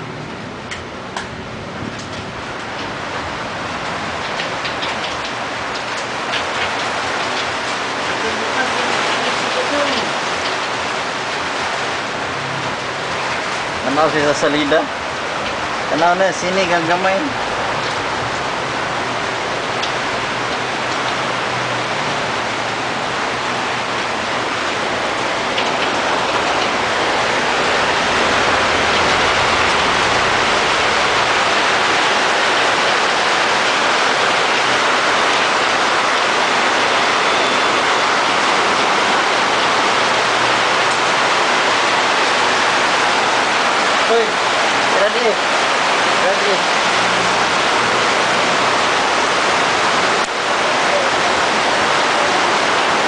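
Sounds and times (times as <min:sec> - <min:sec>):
blower fan rushing air: 0:00.0 - 0:53.0.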